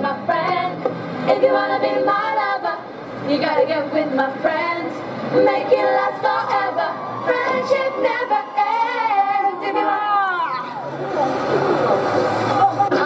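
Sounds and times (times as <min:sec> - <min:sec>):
girls singing a cheer chant: 0:00.0 - 0:10.7.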